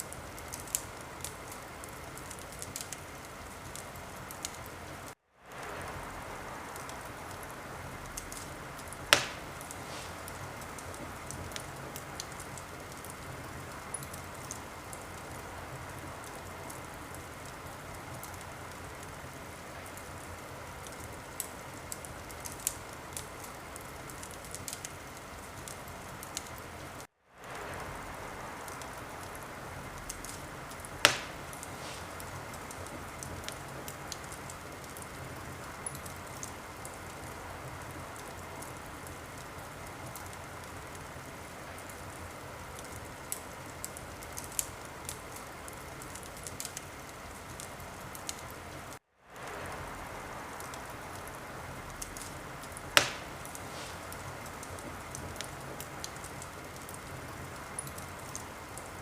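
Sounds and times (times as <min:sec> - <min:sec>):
loud fire pops: 0:00.0 - 0:48.6, 0:49.3 - 0:58.8
fire crackling: 0:00.0 - 0:59.0
wood fire hissing: 0:00.0 - 0:59.0.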